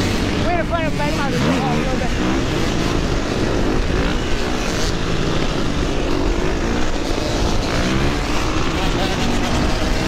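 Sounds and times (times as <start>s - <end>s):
dirt bike engine revving: 0.0s - 10.0s
other motorbike engines: 0.0s - 10.0s.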